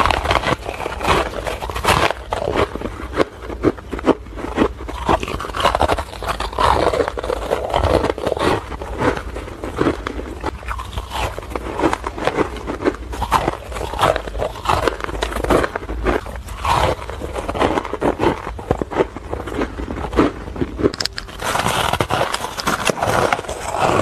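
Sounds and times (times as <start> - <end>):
person crunching ice: 0.0 - 24.0.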